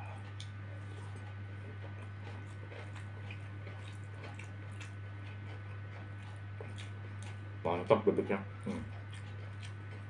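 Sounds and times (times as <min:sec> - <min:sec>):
person chewing food: 0:00.0 - 0:10.0
steady low hum: 0:00.0 - 0:10.0.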